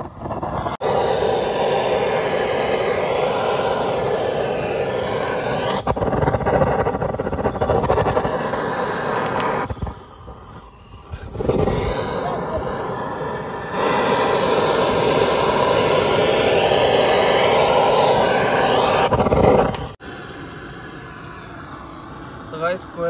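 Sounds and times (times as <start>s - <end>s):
flame gun hissing: 0.0s - 22.7s.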